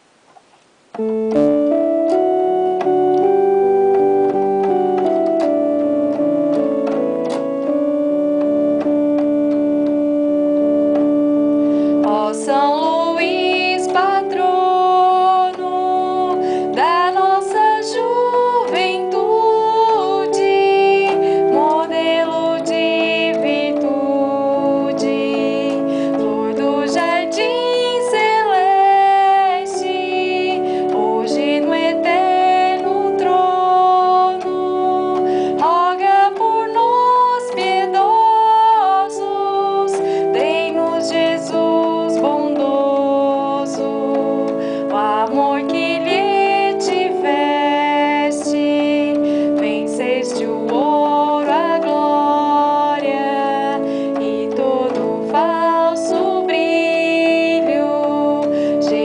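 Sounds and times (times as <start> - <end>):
electronic keyboard organ chords: 0.0 - 59.0
woman singing a hymn: 1.0 - 59.0.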